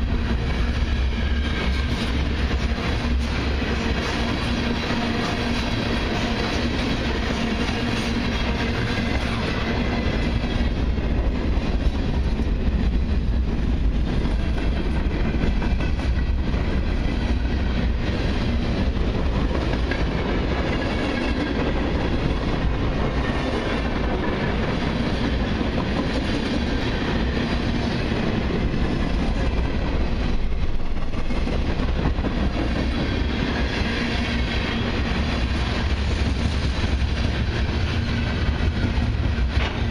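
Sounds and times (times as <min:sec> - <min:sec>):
freight train wheels on rails: 0:00.0 - 0:39.9.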